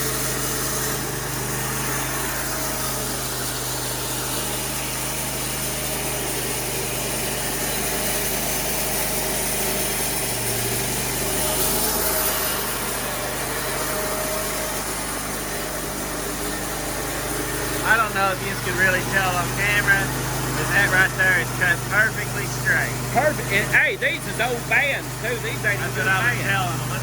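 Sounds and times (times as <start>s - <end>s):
sawmill engine idling: 0.0s - 27.0s.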